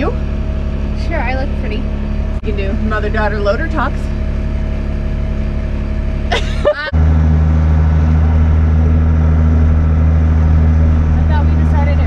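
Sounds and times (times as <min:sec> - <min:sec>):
loader engine droning: 0:00.0 - 0:12.0.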